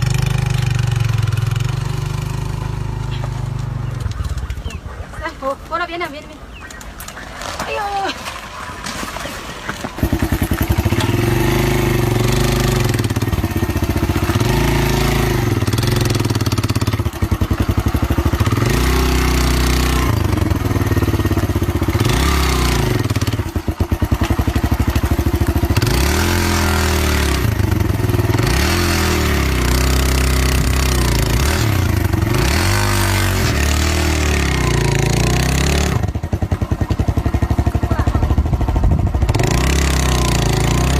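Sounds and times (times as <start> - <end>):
motor engine revving: 0.0 - 4.8, 9.8 - 40.9.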